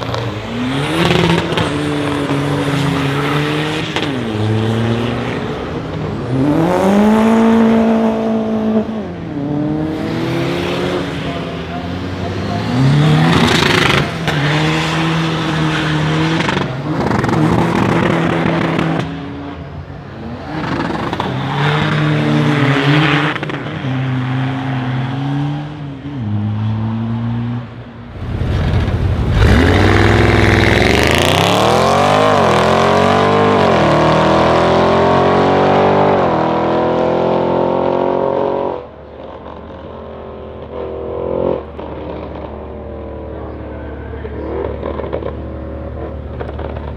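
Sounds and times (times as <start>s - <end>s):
car engine revving and accelerating: 0.0s - 46.9s.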